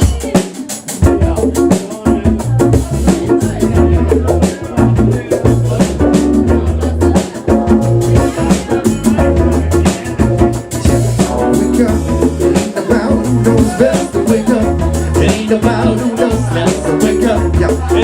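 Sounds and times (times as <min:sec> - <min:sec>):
drum kit steady beat: 0:00.0 - 0:18.0
live band playing: 0:00.0 - 0:18.0.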